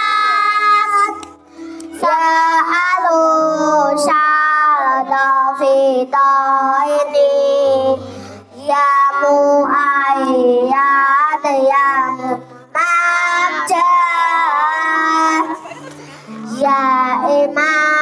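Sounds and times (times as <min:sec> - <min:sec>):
boy singing into a microphone: 0:00.0 - 0:01.3, 0:01.9 - 0:18.0.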